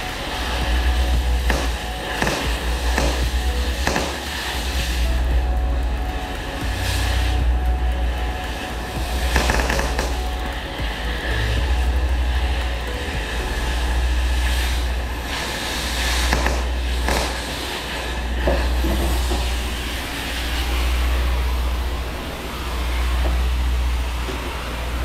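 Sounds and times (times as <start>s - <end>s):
cutting torch hissing: 0.0s - 25.0s
low rumble: 0.0s - 25.0s.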